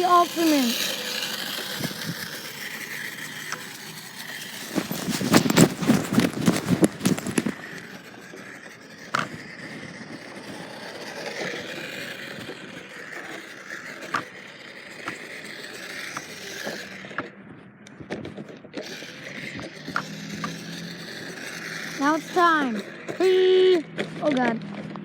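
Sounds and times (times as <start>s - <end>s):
toy truck rolling and scraping: 0.0s - 25.0s.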